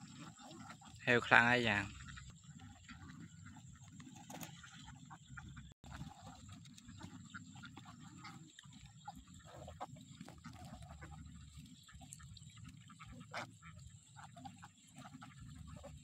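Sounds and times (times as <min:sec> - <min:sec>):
flock of ducks quacking: 0:00.0 - 0:16.0.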